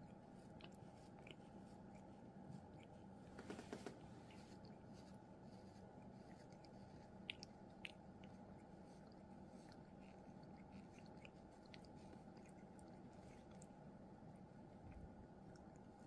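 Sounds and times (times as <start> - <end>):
cat chewing with crunching clicks: 0.0 - 16.0.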